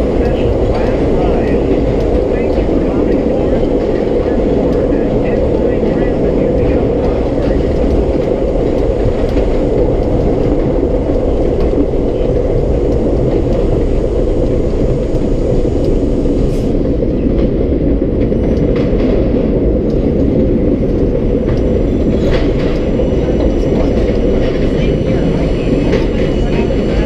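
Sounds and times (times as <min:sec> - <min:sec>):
subway car wheels rumbling on rails: 0:00.0 - 0:27.0.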